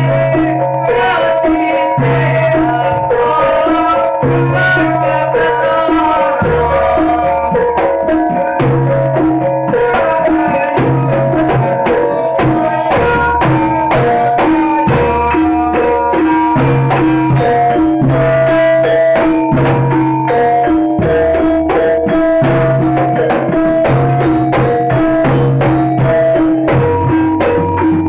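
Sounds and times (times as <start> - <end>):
hand drums beating: 0.0 - 28.0
low repeating tone: 0.0 - 28.0
sustained metallic tones: 0.0 - 28.0.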